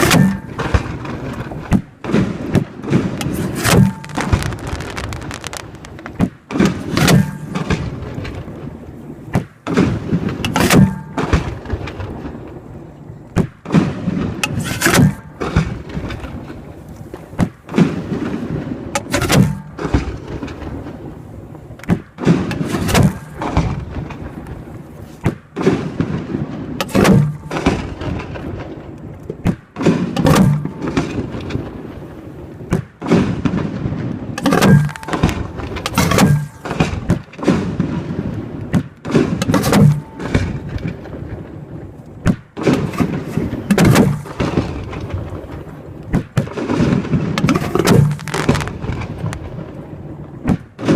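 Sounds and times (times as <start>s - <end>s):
fireworks shells firing with loud bangs: 0.0s - 50.9s.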